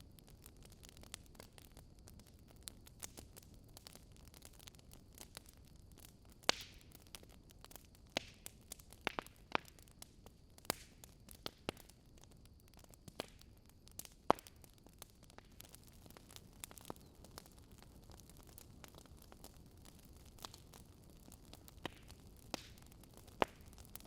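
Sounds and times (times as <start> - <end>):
burning logs crackling and popping: 0.0 - 24.0
faint steady hiss: 0.0 - 24.0.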